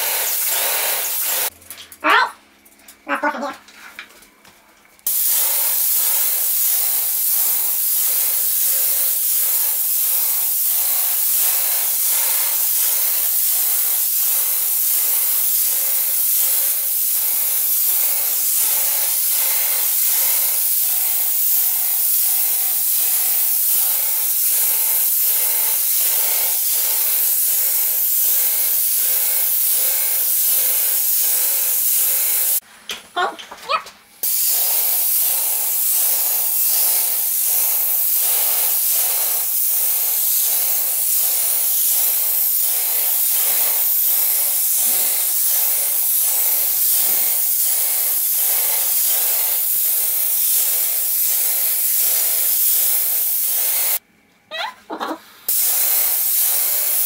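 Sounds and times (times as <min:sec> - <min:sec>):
paint sprayer hissing: 0:00.0 - 0:01.6, 0:05.0 - 0:32.6, 0:34.2 - 0:54.0, 0:55.4 - 0:57.0.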